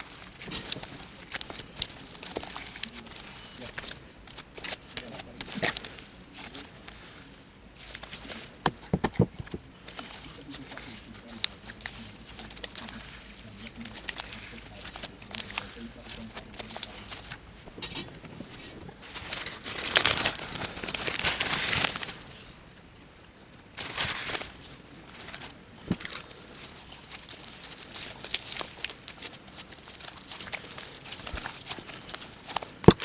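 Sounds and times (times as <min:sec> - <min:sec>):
hands crinkling and rustling materials: 0:00.0 - 0:33.0.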